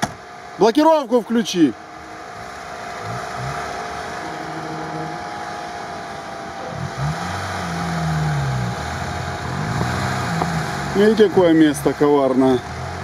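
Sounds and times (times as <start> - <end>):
car engine revving: 1.2 - 13.0.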